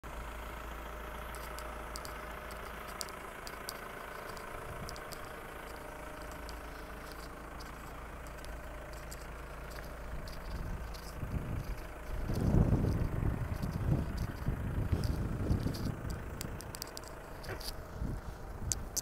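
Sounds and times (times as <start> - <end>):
diesel engine idling: 0.0 - 19.0
light ticks: 1.2 - 17.8, 18.6 - 19.0.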